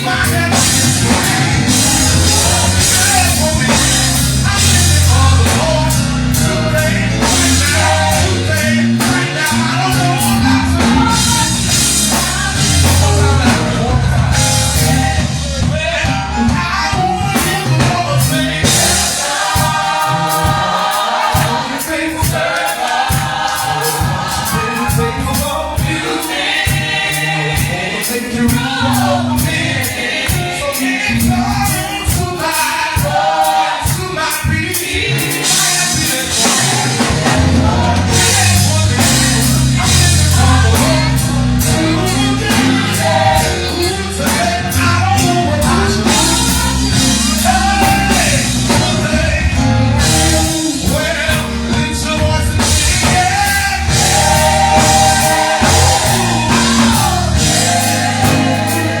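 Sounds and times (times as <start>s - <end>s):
bass: 0.0s - 22.4s, 23.2s - 59.0s
drums: 0.0s - 59.0s
gospel choir singing: 0.0s - 59.0s
keyboard: 0.0s - 59.0s.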